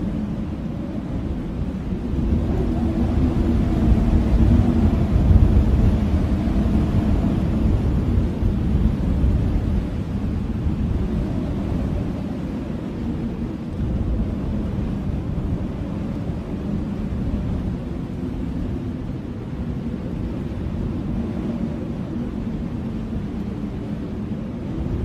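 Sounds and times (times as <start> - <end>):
strong blizzard wind: 0.0 - 25.0.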